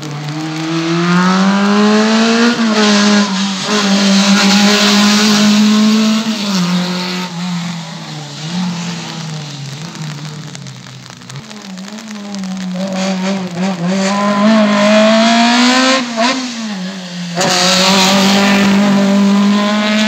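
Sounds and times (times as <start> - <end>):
race car engine accelerating: 0.0 - 9.1, 11.8 - 20.0
tyre noise on wet tarmac: 0.0 - 20.0.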